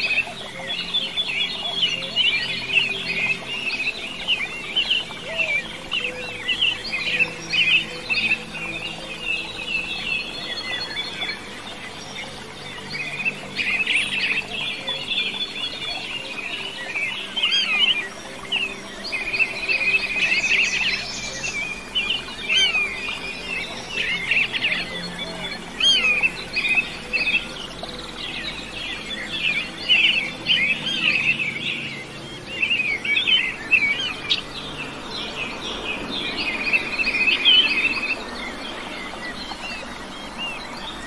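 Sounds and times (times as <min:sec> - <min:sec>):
songbird chirping and warbling: 0:00.0 - 0:41.0.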